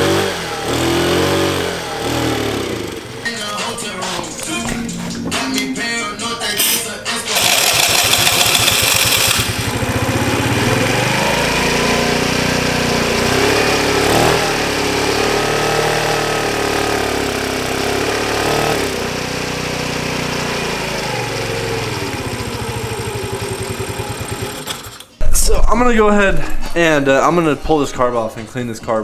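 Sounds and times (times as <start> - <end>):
scooter engine revving: 0.0 - 25.2.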